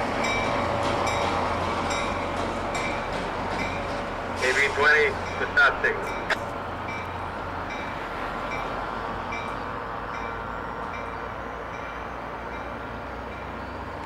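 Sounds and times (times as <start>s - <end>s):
diesel locomotive engine hum: 0.0s - 14.0s.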